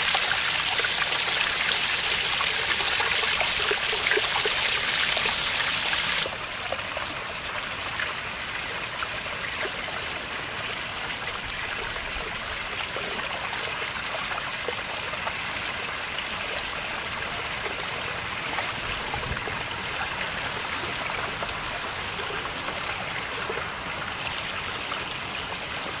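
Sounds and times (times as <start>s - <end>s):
brook trickling: 0.0s - 26.0s.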